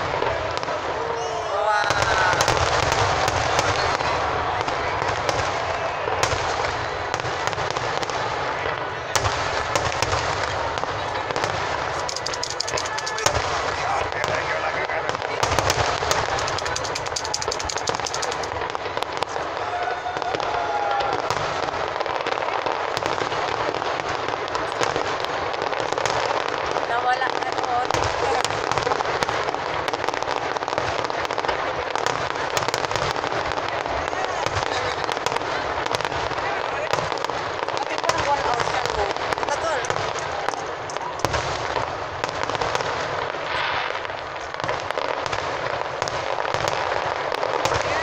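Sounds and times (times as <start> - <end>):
fireworks crackling: 0.0 - 48.0
sharp firework bangs: 0.0 - 48.0.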